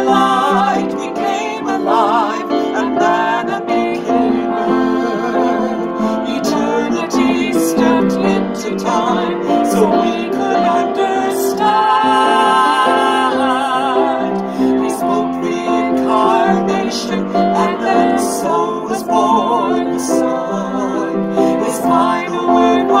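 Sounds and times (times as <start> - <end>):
piano accompaniment: 0.0 - 23.0
woman and man singing a carol: 0.0 - 23.0.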